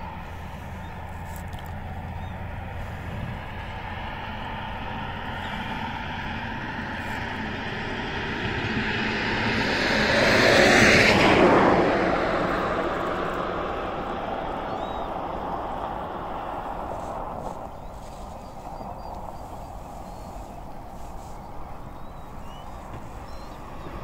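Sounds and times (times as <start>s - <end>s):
steady low rumble: 0.0s - 24.0s
vehicle passing by: 0.0s - 24.0s.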